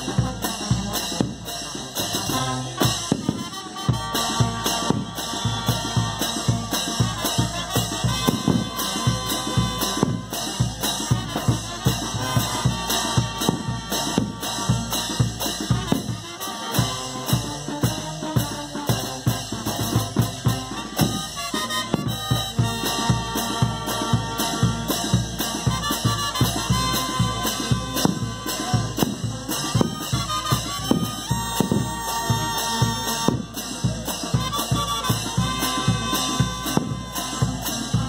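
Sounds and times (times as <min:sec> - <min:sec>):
brass band playing: 0:00.0 - 0:38.0.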